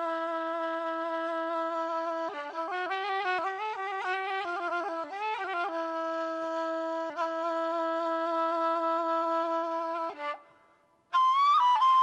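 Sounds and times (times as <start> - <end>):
wooden flute playing: 0.0 - 10.5, 11.1 - 12.0.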